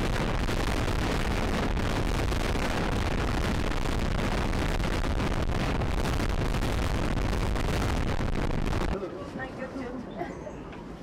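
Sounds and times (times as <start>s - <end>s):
wind buffeting a microphone: 0.0s - 9.0s.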